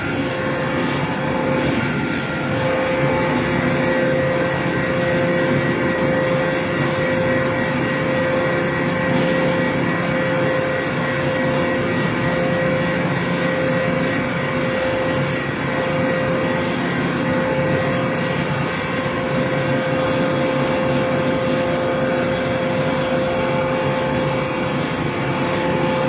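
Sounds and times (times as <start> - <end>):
baler machine hum with whine: 0.0 - 26.0.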